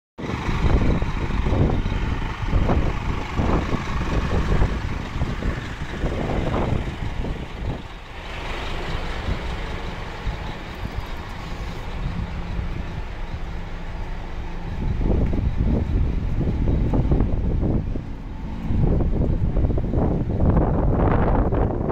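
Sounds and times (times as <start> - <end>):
diesel bus engine idling: 0.2 - 21.9.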